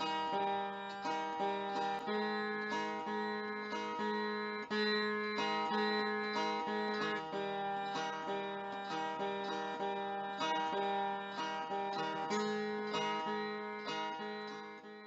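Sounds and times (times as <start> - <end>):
plucked string notes: 0.0 - 15.0.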